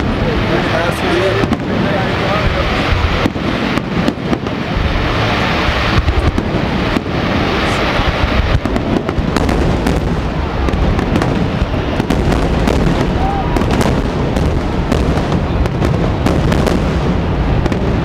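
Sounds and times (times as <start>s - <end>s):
distant fireworks booming and crackling: 0.0s - 18.0s.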